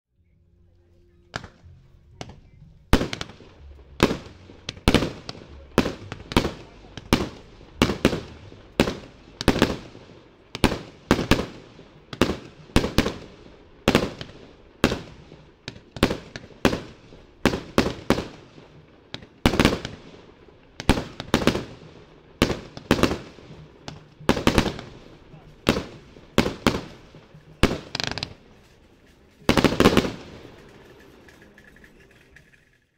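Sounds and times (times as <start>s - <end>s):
faint firework pops: 1.3s - 10.0s, 10.6s - 21.8s, 22.4s - 32.2s
fireworks cake bangs: 1.3s - 21.8s, 22.4s - 28.8s, 29.4s - 31.2s.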